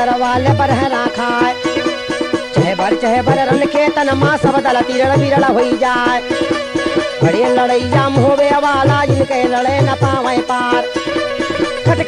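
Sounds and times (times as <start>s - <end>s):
dholak drum strokes: 0.0s - 12.0s
mandolin and harmonium melody: 0.0s - 12.0s.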